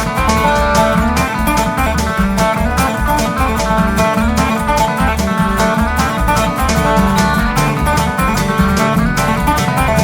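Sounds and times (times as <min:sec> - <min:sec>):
plucked acoustic guitar: 0:00.0 - 0:10.0
steady bass beat: 0:00.0 - 0:10.0.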